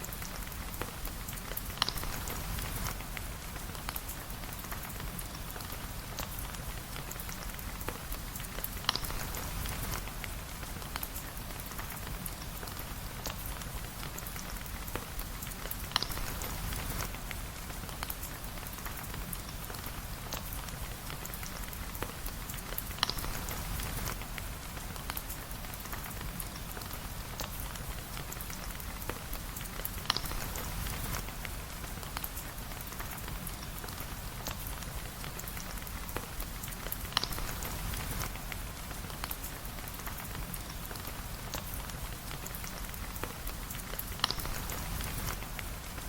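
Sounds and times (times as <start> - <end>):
rain pattering: 0.0 - 46.0.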